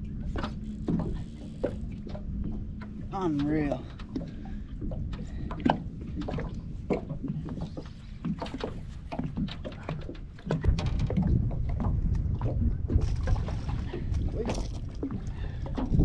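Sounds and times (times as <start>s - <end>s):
knocks and clatter on boat: 0.0s - 16.0s
low rumble: 0.0s - 16.0s.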